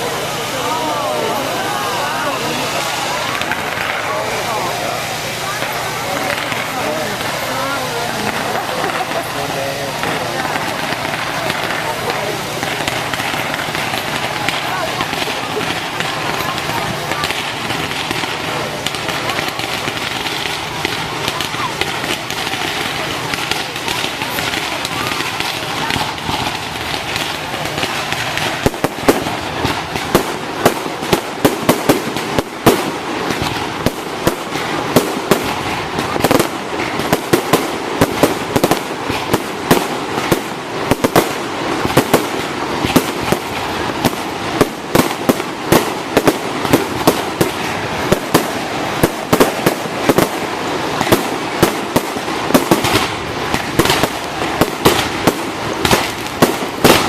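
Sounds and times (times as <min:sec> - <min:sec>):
continuous noisy background: 0:00.0 - 0:57.0
fireworks bangs and pops: 0:00.0 - 0:57.0.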